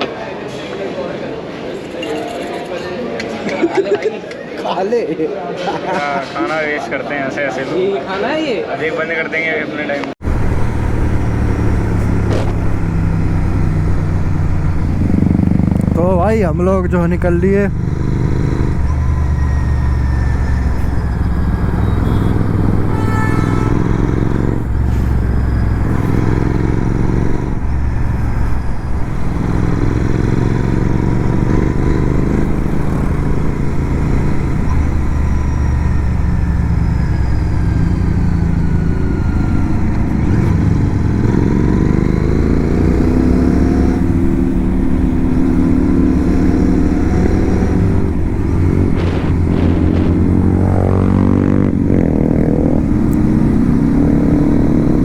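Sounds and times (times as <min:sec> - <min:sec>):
wind and road noise: 0:10.0 - 0:55.0
motorcycle engine accelerating: 0:10.2 - 0:55.0.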